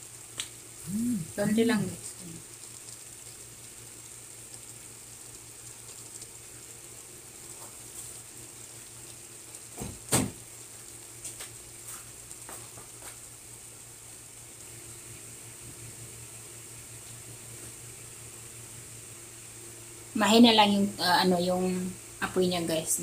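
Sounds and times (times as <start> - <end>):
pot sizzling on stove: 0.0 - 23.0.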